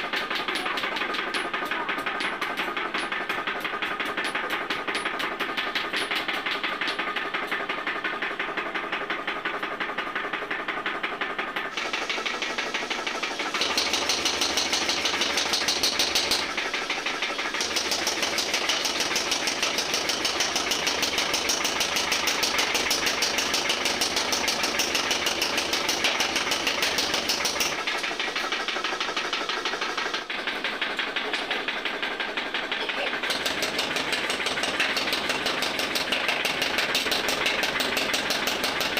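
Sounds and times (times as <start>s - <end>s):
machine knocking rhythmically: 0.0s - 38.9s.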